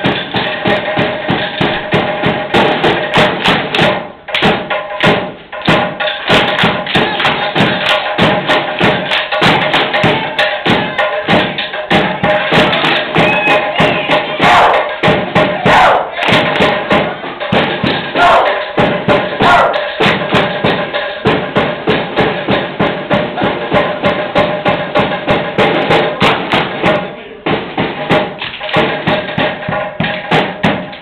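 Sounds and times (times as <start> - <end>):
fast drumbeat: 0.0 - 31.0.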